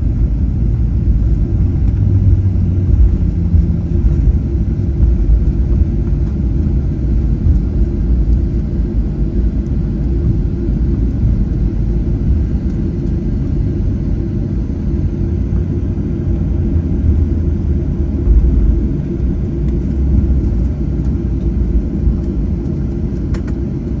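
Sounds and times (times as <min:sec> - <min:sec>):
airplane cabin rumble taxiing: 0:00.0 - 0:24.0.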